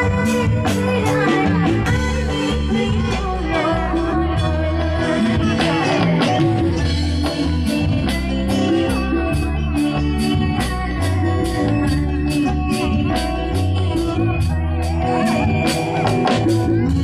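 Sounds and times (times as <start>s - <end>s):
bass line: 0.0s - 17.0s
drum kit with cymbal strokes: 0.0s - 17.0s
electric guitar: 0.0s - 17.0s
keyboard: 0.0s - 17.0s.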